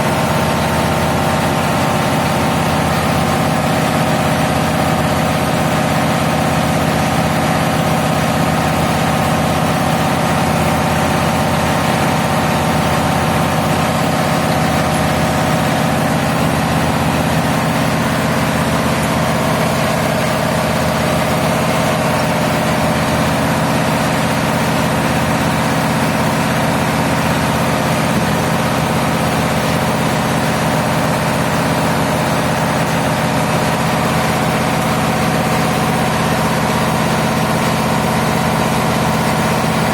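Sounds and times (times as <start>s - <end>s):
large diesel engine running: 0.0s - 39.9s.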